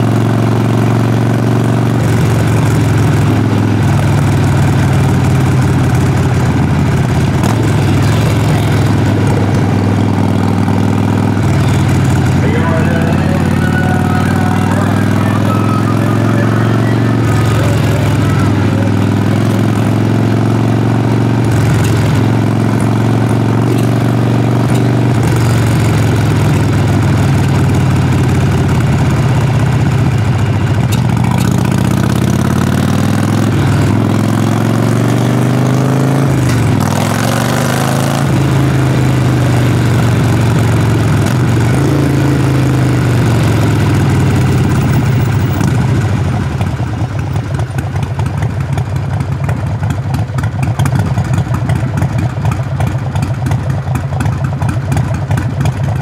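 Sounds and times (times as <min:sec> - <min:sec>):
motorcycle engine through exhaust: 0:00.0 - 0:56.0.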